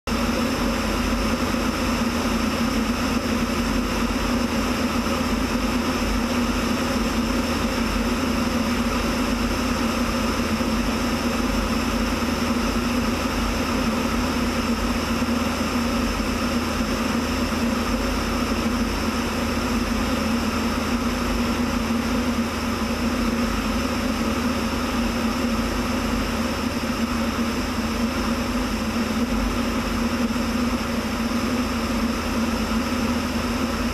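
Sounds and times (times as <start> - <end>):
light aircraft engine droning: 0.1 - 33.9.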